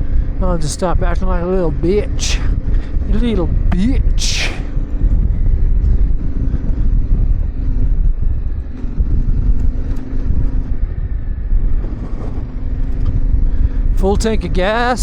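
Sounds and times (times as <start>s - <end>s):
motorcycle engine running: 0.0s - 14.0s
wind and road noise: 0.0s - 15.0s.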